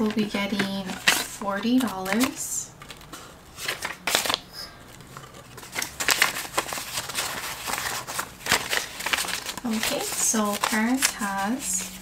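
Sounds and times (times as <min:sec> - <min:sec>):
paper banknotes rustling: 0:00.0 - 0:12.0.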